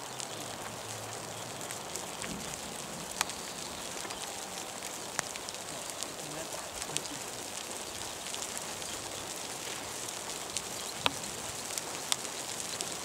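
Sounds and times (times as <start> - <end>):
rain pattering: 0.0 - 13.0
raindrops ticking close by: 0.0 - 13.0.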